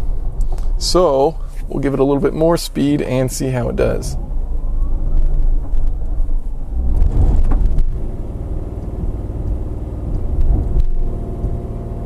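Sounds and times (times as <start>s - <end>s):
car engine pulling uphill: 0.0s - 12.0s.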